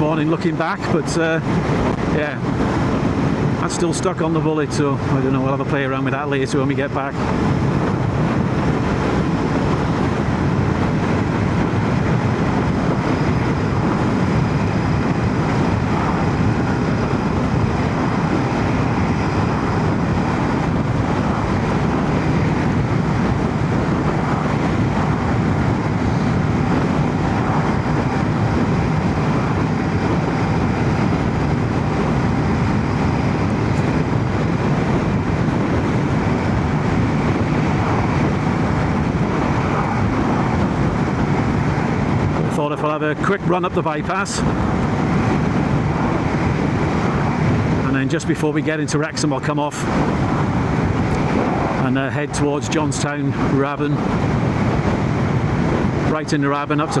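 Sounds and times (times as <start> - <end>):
road noise: 0.0 - 57.0
wind noise: 0.0 - 57.0.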